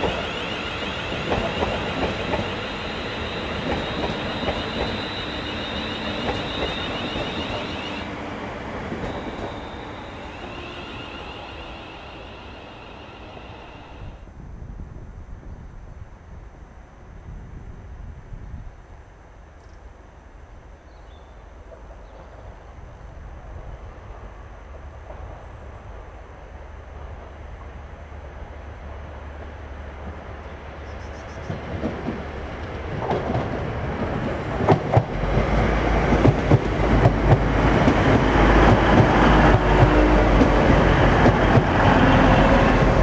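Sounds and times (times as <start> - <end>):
diesel train passing: 0.0 - 14.3, 21.8 - 43.0.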